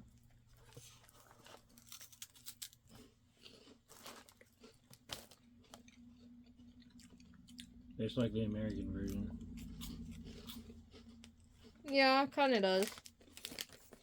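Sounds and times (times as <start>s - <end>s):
low steady hum: 0.0s - 14.0s
crunching wafer cookie: 0.2s - 7.8s, 9.4s - 14.0s.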